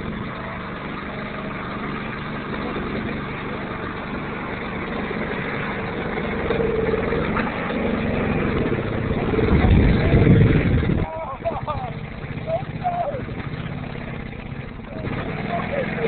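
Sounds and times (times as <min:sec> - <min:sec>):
golf cart engine running: 0:00.0 - 0:16.0.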